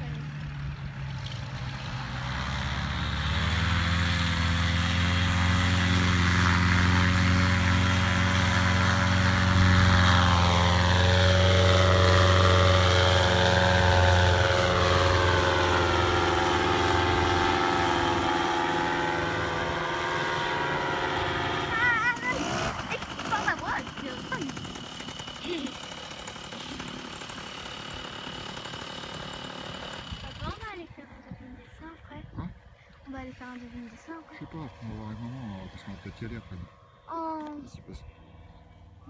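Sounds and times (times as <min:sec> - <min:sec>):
paramotor engine and propeller: 0:00.0 - 0:39.0.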